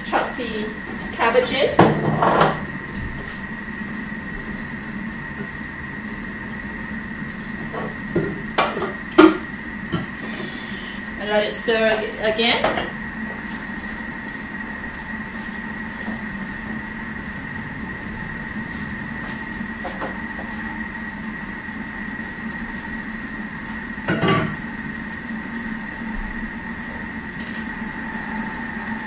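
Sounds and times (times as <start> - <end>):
food processor humming: 0.0 - 29.0.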